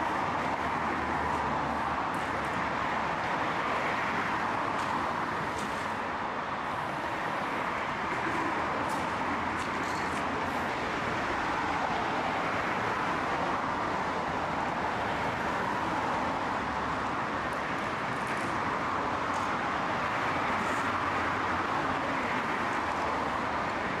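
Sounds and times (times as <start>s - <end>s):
road traffic roar: 0.0s - 24.0s.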